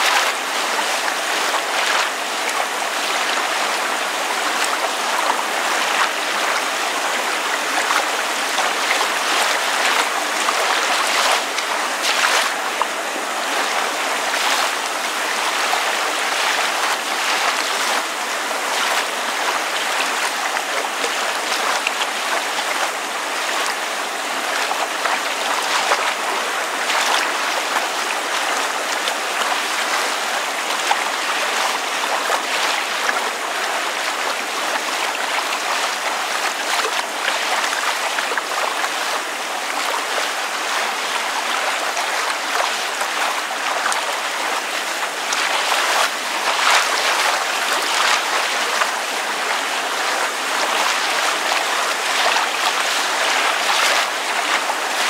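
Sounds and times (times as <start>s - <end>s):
rain falling: 0.0s - 55.0s
water lapping: 0.0s - 55.0s.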